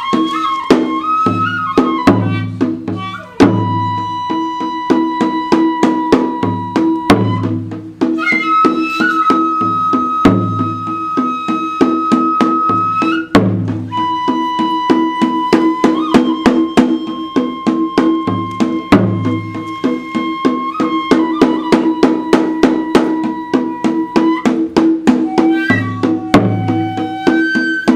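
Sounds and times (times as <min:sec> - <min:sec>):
bamboo flute high notes: 0:00.0 - 0:27.9
taiko drums: 0:00.0 - 0:27.9.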